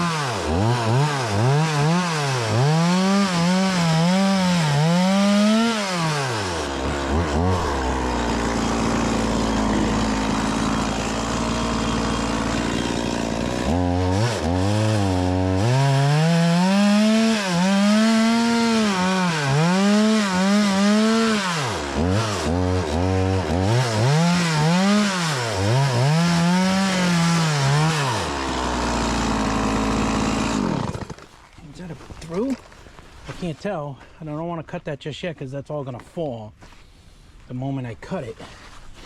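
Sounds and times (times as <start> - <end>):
chainsaw cutting logs: 0.0 - 33.5.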